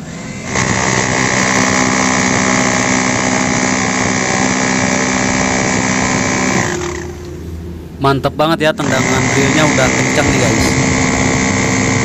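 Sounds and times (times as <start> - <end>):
rotary hammer drilling concrete: 0.0 - 7.1, 8.8 - 12.0.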